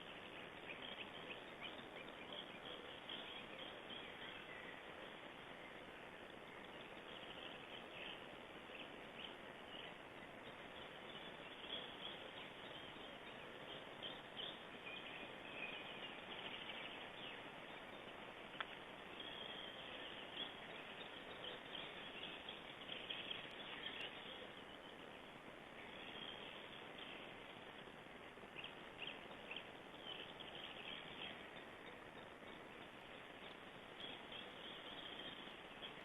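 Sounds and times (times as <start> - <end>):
songbirds singing and chirping: 0.0 - 36.0
steady hiss: 0.0 - 36.0.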